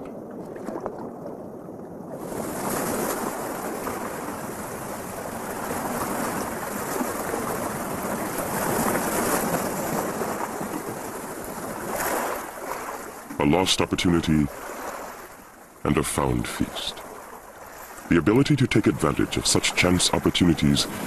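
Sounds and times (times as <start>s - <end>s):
water splashing and churning: 0.0s - 21.0s.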